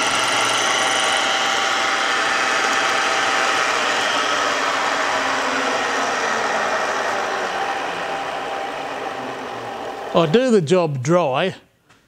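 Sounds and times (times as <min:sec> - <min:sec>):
milling machine cutting metal: 0:00.0 - 0:10.6.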